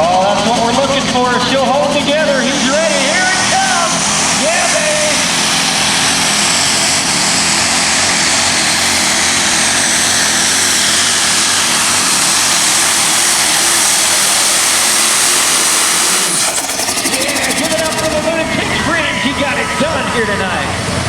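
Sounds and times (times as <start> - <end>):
engine running under heavy load: 0.0 - 21.0.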